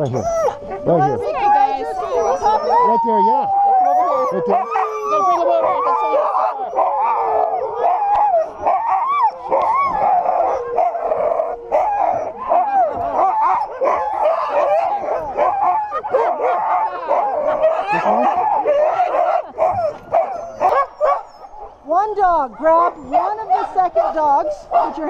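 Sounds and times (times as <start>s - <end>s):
dogs barking yipping and howling: 0.0s - 25.0s.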